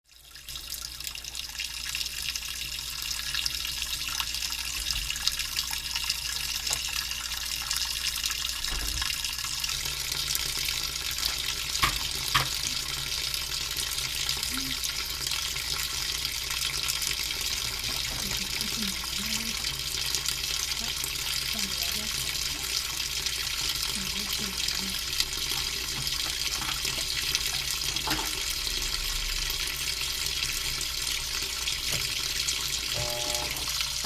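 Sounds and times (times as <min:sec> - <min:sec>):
water running from a tap: 0:00.1 - 0:34.0.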